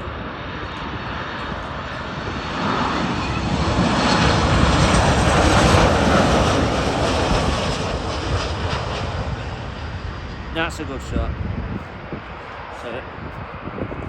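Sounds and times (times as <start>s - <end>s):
jet engines rushing past: 0.0s - 14.0s.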